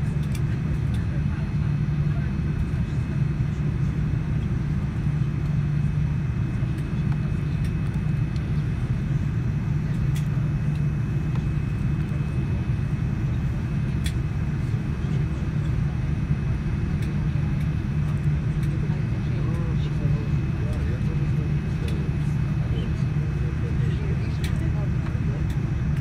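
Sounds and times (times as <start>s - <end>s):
airplane cabin hum: 0.0s - 26.0s.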